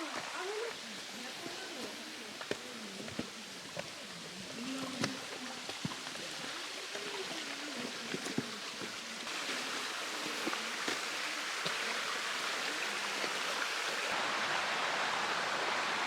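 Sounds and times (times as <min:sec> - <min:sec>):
mountain stream flowing: 0:00.0 - 0:16.0.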